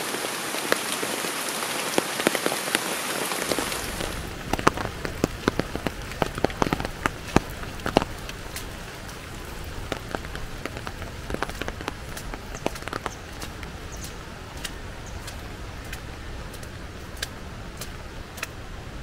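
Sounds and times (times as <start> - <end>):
raindrops ticking on surface: 0.0 - 19.0.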